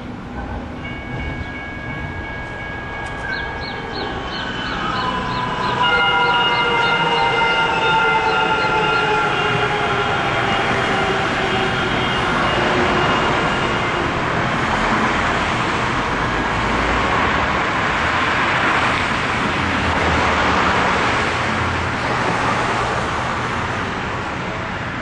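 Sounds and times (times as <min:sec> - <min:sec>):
light-rail train tones: 0:00.0 - 0:25.0
road traffic rushing: 0:00.0 - 0:25.0.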